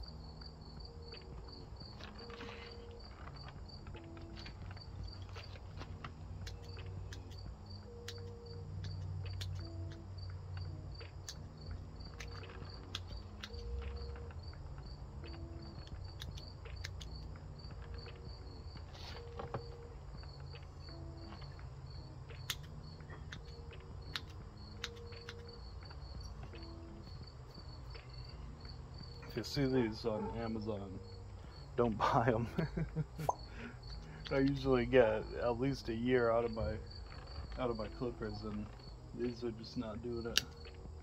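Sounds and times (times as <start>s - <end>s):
cricket chirping: 0.0s - 41.0s.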